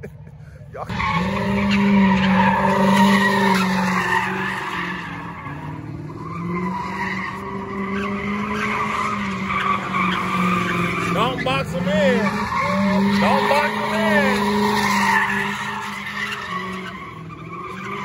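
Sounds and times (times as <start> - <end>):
tyres skidding on asphalt: 0.3 - 18.0
car engine at high revs: 0.9 - 18.0.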